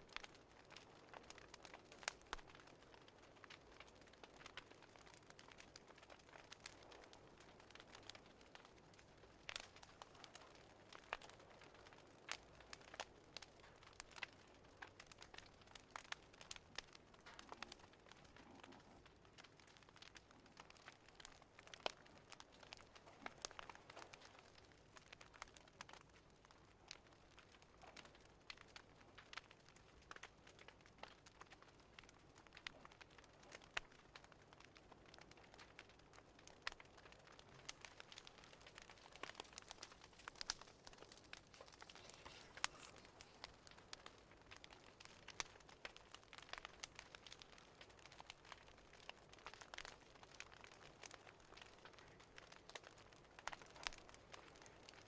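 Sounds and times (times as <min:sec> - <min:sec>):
soft steady hiss: 0:00.0 - 0:55.0
wood fire crackling: 0:00.0 - 0:55.0.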